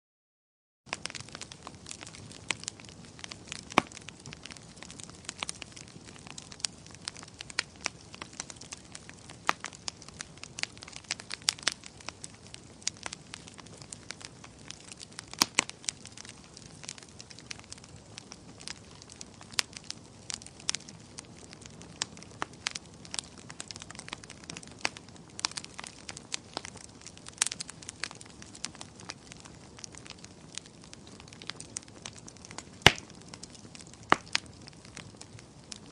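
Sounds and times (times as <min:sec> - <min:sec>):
bonfire crackling and popping: 0:00.9 - 0:35.9.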